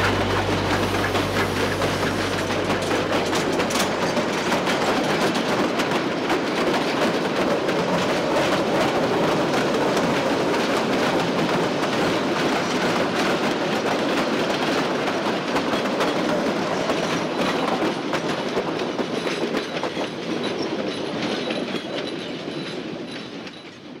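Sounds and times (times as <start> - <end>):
train wheels clickety-clack: 0.0 - 24.0.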